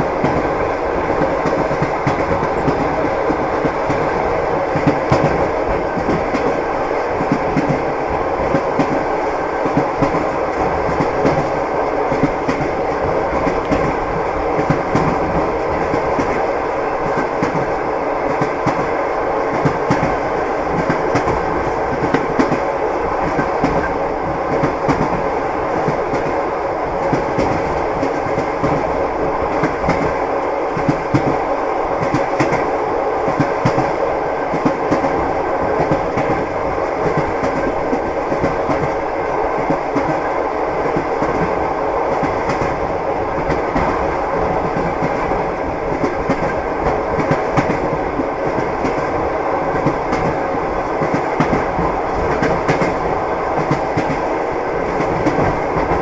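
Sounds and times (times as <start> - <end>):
railway carriage rumble: 0.0 - 56.0
train wheels clacking: 0.0 - 56.0.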